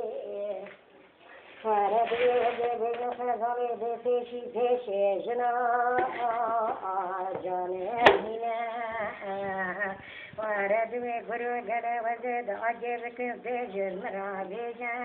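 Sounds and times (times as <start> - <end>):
person singing slow melody: 0.0 - 15.0.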